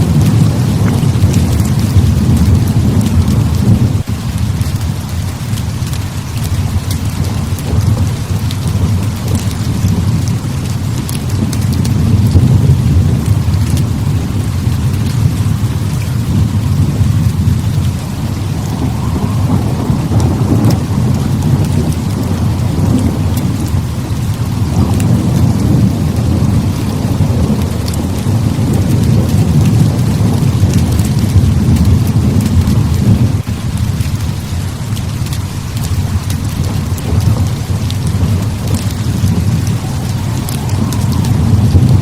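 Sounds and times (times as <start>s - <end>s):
heavy rain pouring: 0.0s - 42.0s
low thunder rumble: 0.0s - 42.0s.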